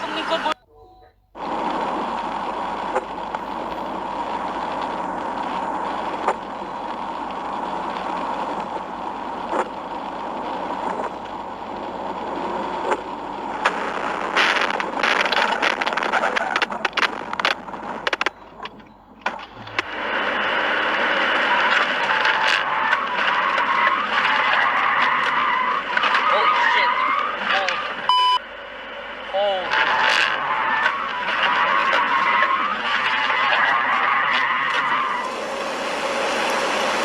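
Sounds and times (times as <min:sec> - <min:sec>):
car road and tyre noise: 0:01.4 - 0:37.0.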